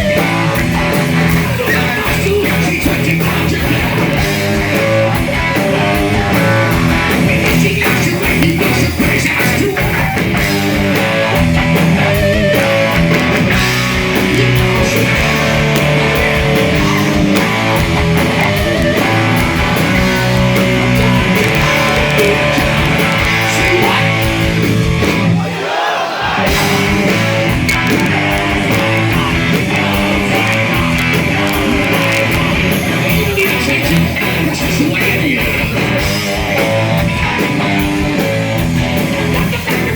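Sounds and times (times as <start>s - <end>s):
hard rock band: 0.0s - 39.9s.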